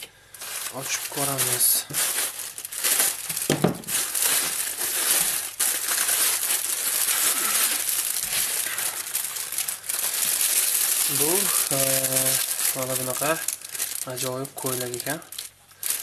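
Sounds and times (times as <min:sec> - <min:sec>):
plastic bag rustling: 0:00.0 - 0:16.0
plastic mailer crinkling and tearing: 0:00.0 - 0:16.0.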